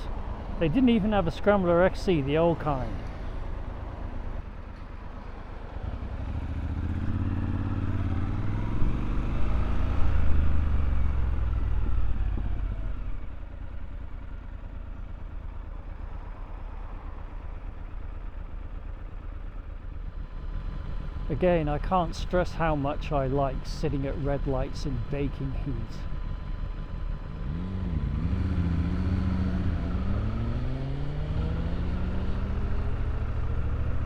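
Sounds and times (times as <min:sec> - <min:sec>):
motorcycle engine running: 0:00.0 - 0:34.0
road and wind noise: 0:00.0 - 0:34.0.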